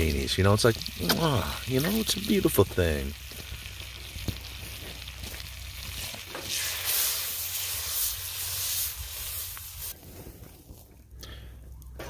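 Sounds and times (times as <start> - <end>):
butter sizzling in a wok: 0.0 - 10.0
hissing sizzle on fire: 0.0 - 11.9.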